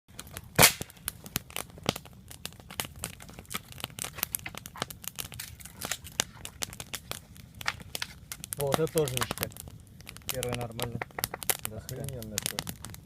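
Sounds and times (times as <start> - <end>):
campfire crackling and popping: 0.1 - 13.0.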